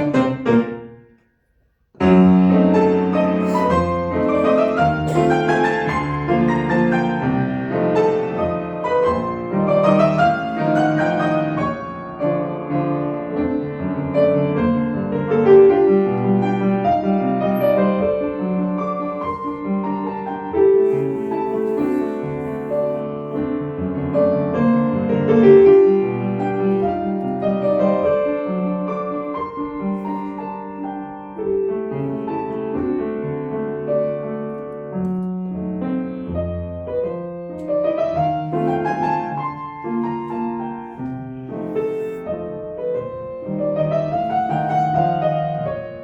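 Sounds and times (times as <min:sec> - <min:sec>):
solo classical piano: 0:00.0 - 0:46.0.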